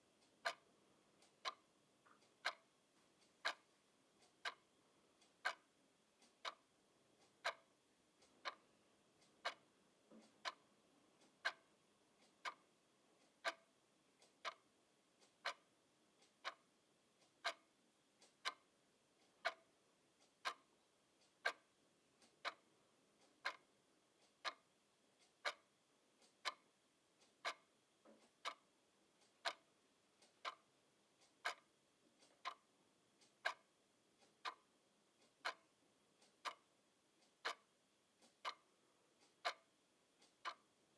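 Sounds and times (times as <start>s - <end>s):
clock ticking: 0.1s - 40.8s.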